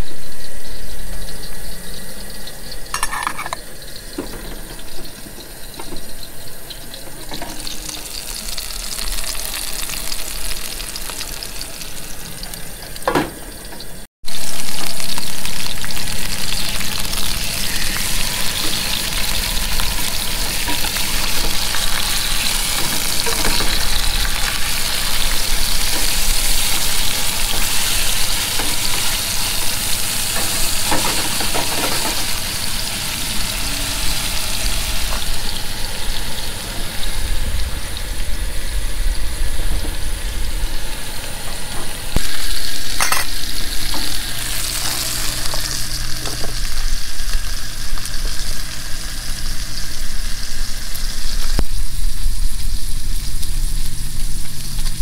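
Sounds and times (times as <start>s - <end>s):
steaks sizzling in a frying pan: 0.1s - 38.8s, 40.5s - 55.0s.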